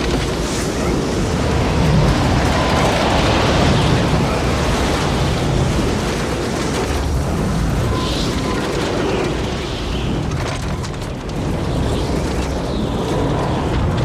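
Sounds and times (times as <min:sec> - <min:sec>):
deep rumble: 0:00.0 - 0:14.0
rushing tornado wind: 0:00.0 - 0:14.0.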